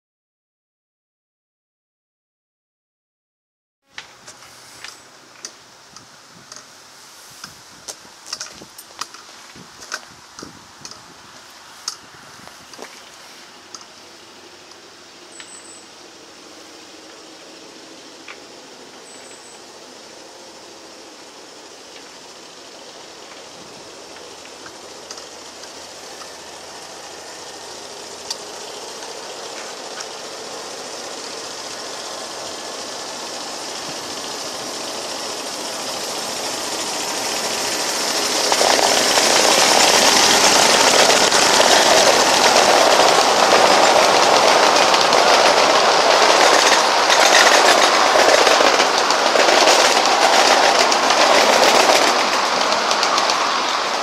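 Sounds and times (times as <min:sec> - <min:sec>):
model locomotive engine: 0:03.9 - 0:54.0
wheels clicking over rail joints: 0:04.0 - 0:16.3, 0:17.0 - 0:54.0.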